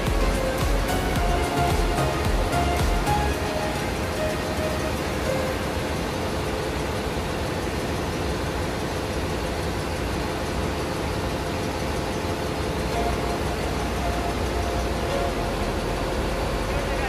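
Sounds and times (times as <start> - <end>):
ship engine machinery din: 0.0 - 17.0.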